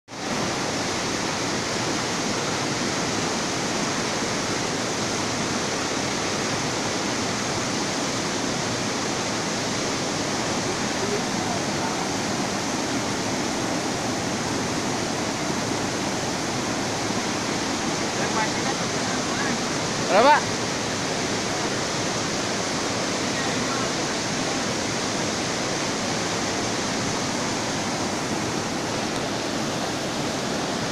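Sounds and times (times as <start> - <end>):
river rapids rushing over boulders: 0.1 - 30.9.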